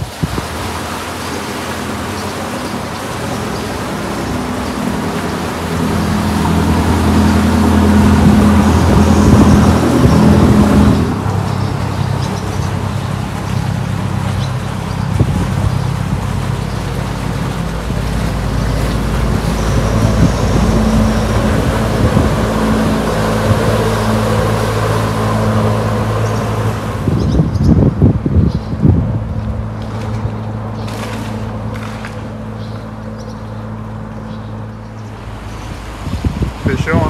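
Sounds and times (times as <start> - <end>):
boat engines passing: 0.0 - 37.0
road traffic rumble: 0.0 - 37.0
wind buffeting microphone: 0.0 - 37.0.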